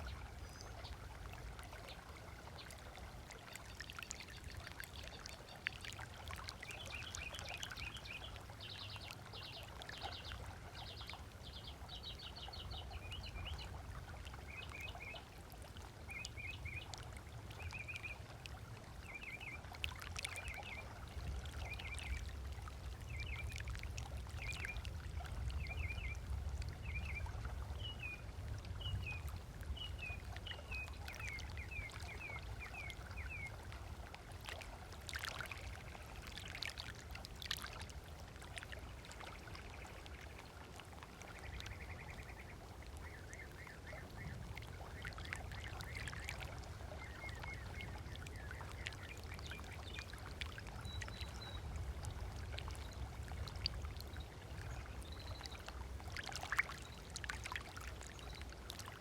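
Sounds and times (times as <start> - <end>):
water splashes: 0.0 - 59.0
waves lapping on shore: 0.0 - 59.0.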